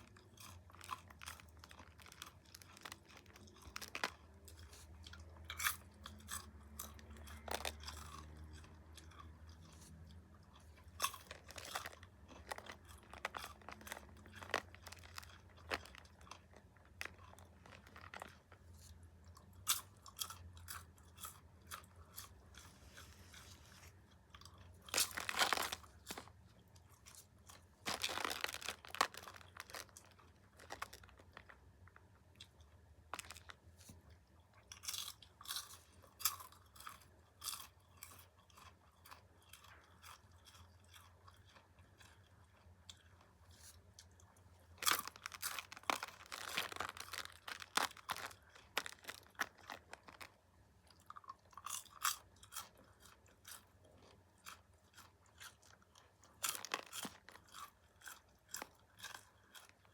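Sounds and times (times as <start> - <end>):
person crunching popcorn: 0.0 - 59.9.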